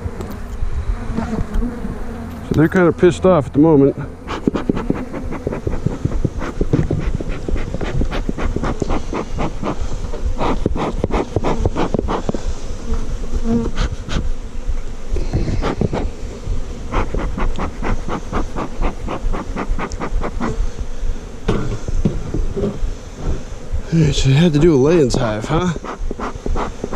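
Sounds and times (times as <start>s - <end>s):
single bees zipping past: 0.0s - 3.0s, 4.1s - 26.9s
honeybees buzzing: 0.0s - 26.9s.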